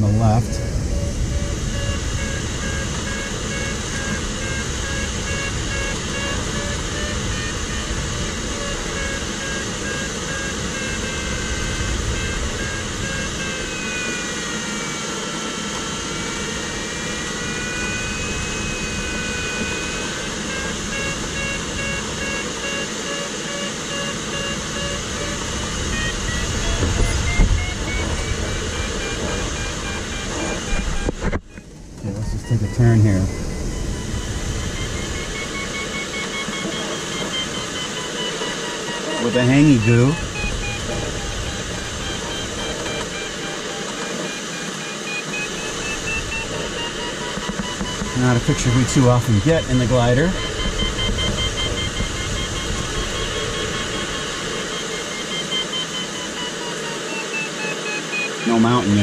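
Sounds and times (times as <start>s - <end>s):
air rushing over cockpit: 0.0s - 59.0s
variometer beeps and tone: 0.0s - 59.0s.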